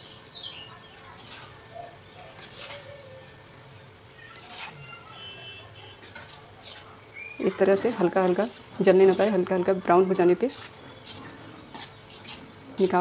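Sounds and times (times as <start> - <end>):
food sizzling in hot oil: 0.0 - 13.0
spoon scraping through oil: 0.6 - 13.0.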